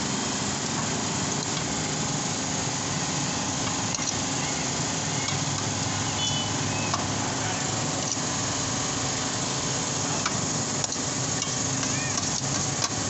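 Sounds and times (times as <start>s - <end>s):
rotisserie broiler sizzling: 0.0s - 13.0s.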